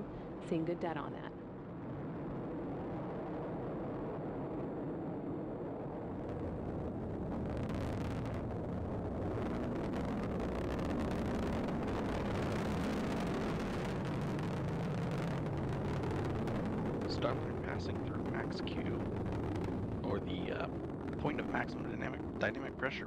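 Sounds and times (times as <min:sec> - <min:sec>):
rocket exhaust roar crackling: 0:00.0 - 0:23.0.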